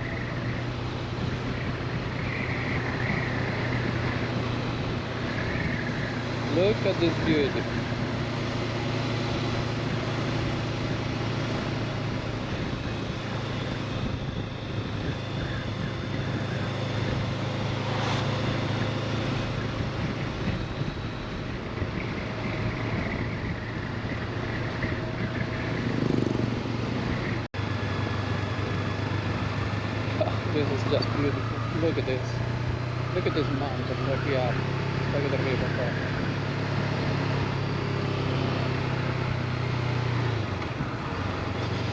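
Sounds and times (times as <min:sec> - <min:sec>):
motorcycle engine running: 0:00.0 - 0:41.9
road noise rushing: 0:00.0 - 0:41.9.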